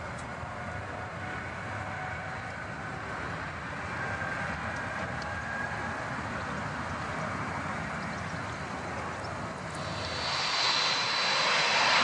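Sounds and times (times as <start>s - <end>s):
jet engine rushing with whine: 0.0s - 12.0s.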